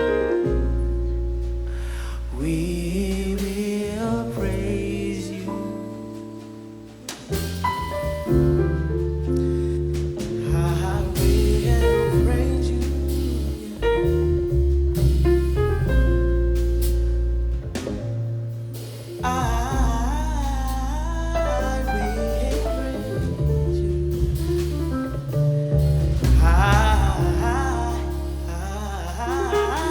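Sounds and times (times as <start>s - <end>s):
drum kit hits: 0.0s - 29.9s
piano chords: 0.0s - 29.9s
walking double bass: 0.0s - 29.9s.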